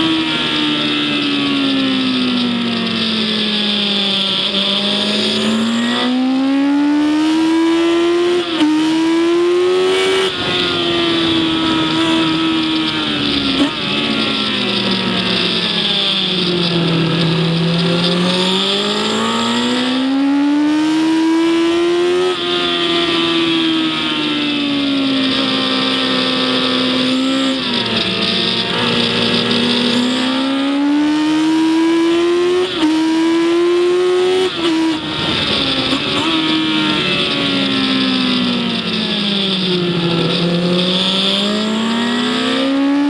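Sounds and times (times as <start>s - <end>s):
race car engine accelerating: 0.0s - 43.0s.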